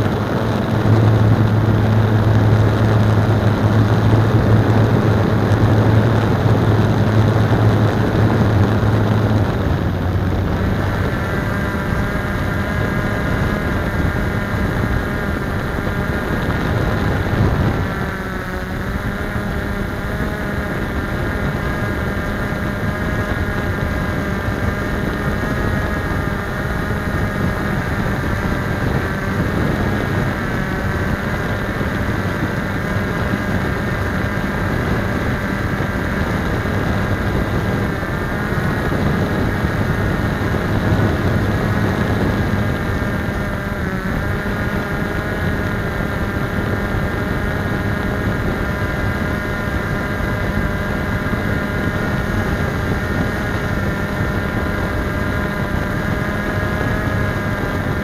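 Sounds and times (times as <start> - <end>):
quadcopter motors whirring: 0.0 - 58.0.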